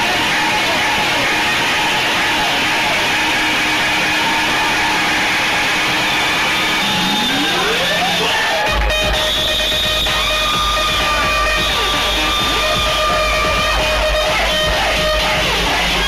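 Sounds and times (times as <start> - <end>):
loud club house music: 0.0 - 16.0.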